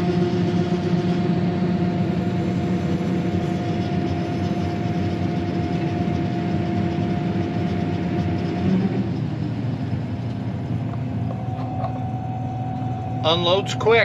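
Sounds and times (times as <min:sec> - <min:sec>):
combine harvester droning: 0:00.0 - 0:14.0.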